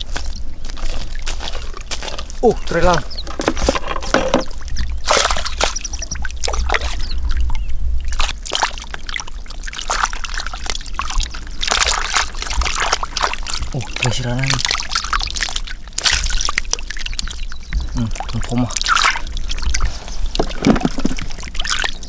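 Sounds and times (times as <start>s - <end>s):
muddy water splashing: 0.0s - 22.0s.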